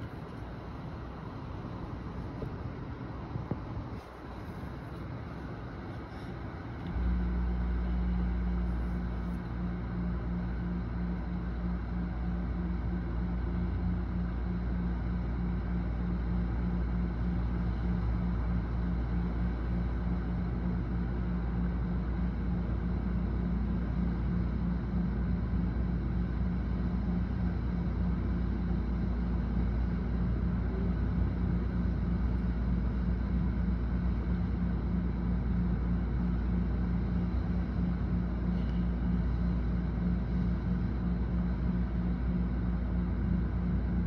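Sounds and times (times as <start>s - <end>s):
wind: 0.0s - 44.0s.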